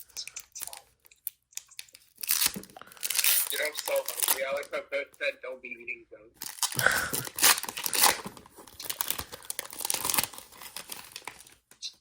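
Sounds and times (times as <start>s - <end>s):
foil wrapper crinkling and tearing: 0.0s - 4.7s, 6.4s - 11.7s.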